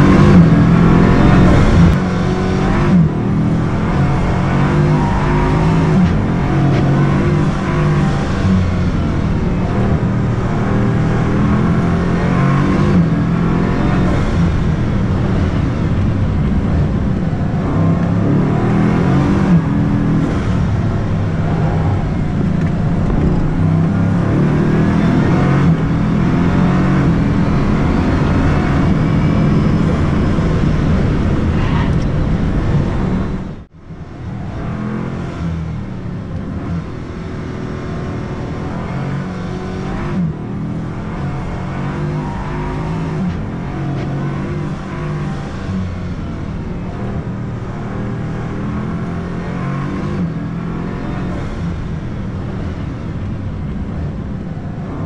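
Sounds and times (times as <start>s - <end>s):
car engine accelerating hard: 0.0s - 55.0s
car passing at speed outside: 0.0s - 55.0s.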